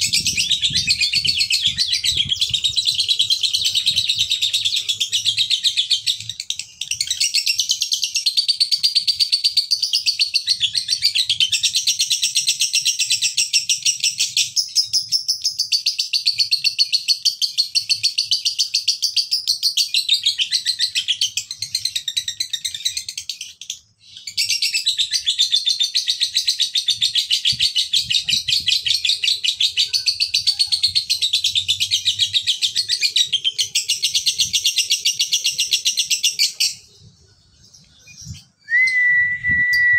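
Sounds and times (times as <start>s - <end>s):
lovebird rapid chattering song: 0.0s - 38.6s.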